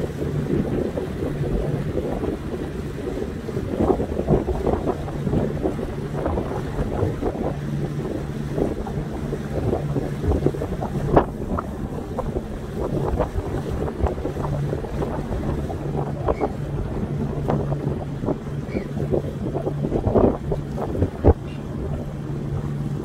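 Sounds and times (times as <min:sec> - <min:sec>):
boat engine hum: 0:00.0 - 0:23.0
water splashing: 0:00.0 - 0:23.0
wind buffeting microphone: 0:00.0 - 0:23.0.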